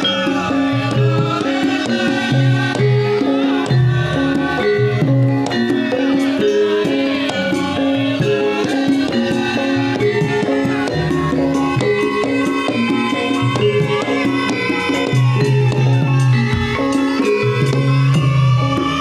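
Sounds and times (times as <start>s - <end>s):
gamelan music over sound system: 0.0s - 19.0s.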